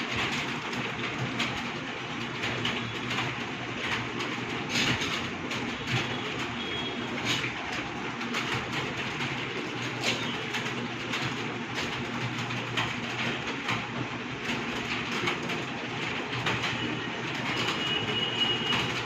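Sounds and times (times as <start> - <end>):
many keyboards clattering: 0.0 - 19.0.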